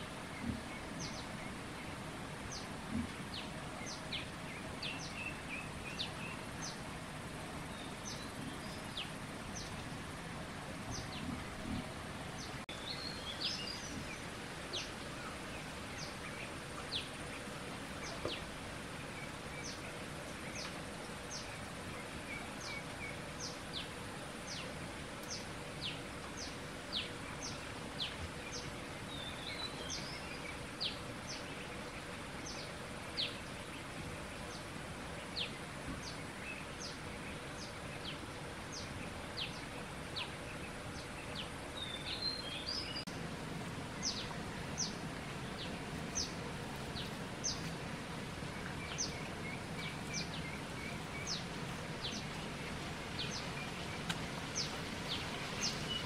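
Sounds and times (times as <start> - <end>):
birds twittering: 0.0 - 10.2, 10.8 - 43.2, 43.8 - 56.0
steady background hiss: 0.0 - 56.0.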